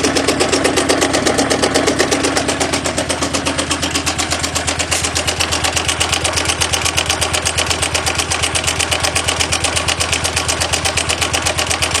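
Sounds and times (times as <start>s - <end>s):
engine running with rapid pulse: 0.0s - 12.0s.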